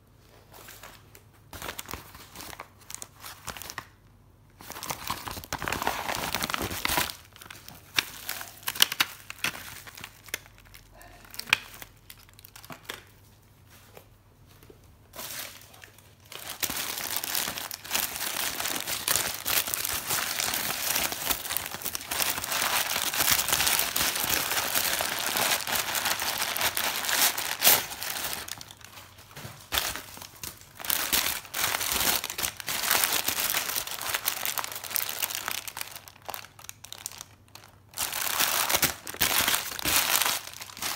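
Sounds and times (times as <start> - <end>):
packaging crinkling: 4.6 - 13.1, 15.2 - 40.9.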